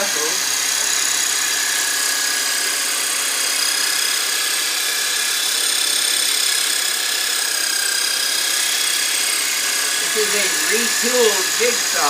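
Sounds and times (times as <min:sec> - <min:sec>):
massager motor whining: 0:00.0 - 0:12.0.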